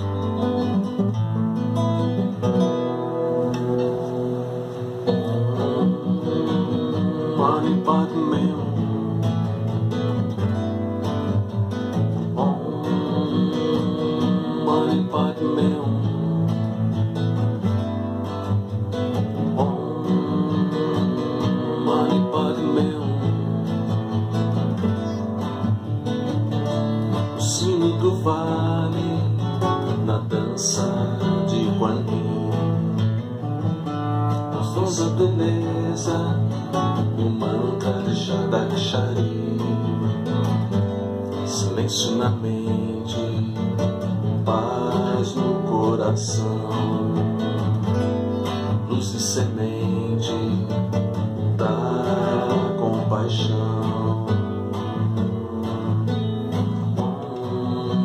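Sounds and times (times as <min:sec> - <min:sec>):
classical guitar chords: 0:00.0 - 0:58.0.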